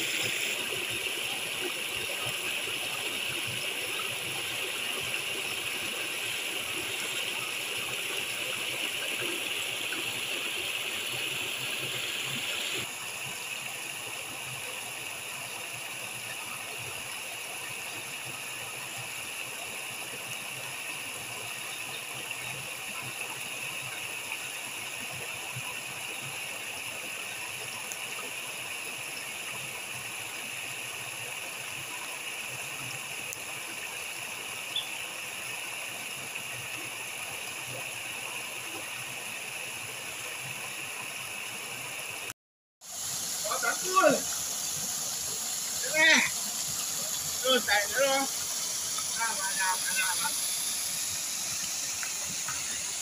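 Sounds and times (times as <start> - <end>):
small waterfall splashing into pool: 0.0 - 53.0.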